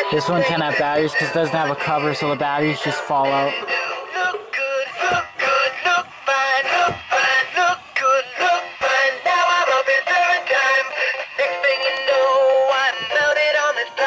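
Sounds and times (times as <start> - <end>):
toy singing with backing music: 0.0 - 14.0.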